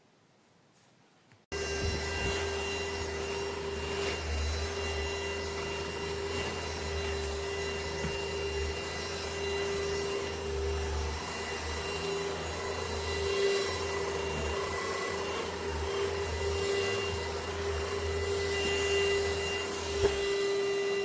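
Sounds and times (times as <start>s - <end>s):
vacuum cleaner running: 1.5s - 21.0s.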